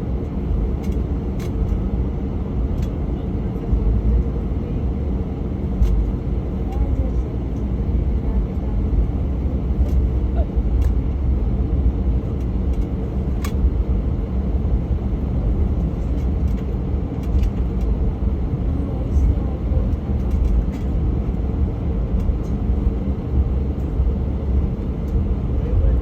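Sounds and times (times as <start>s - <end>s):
jet cabin engine rumble: 0.0s - 26.0s.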